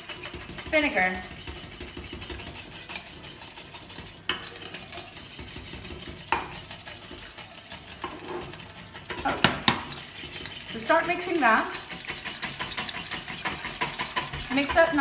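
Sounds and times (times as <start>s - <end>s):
whisk clattering against a bowl: 0.0s - 15.0s.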